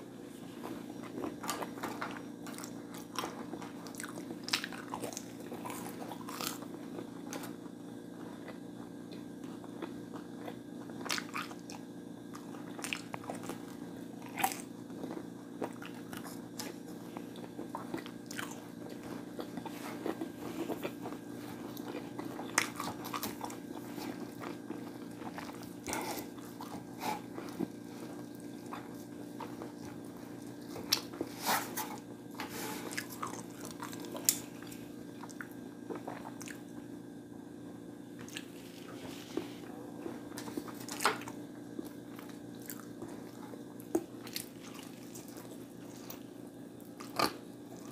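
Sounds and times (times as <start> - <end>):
steady low hum: 0.0 - 47.9
person chewing crispy food: 0.3 - 36.8, 38.2 - 47.9.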